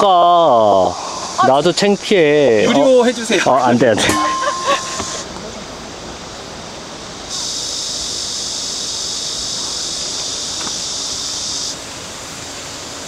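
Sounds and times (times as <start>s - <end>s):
high-pitched insect chorus: 0.0s - 13.0s
low background hiss: 0.0s - 13.0s.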